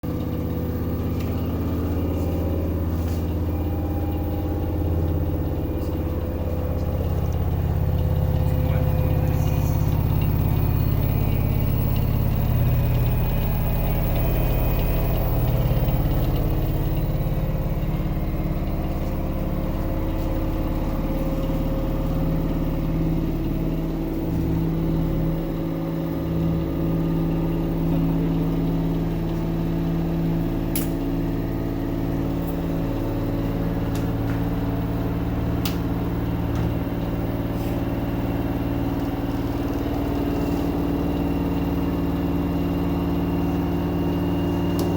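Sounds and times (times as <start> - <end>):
washing machine motor humming: 0.0 - 44.9.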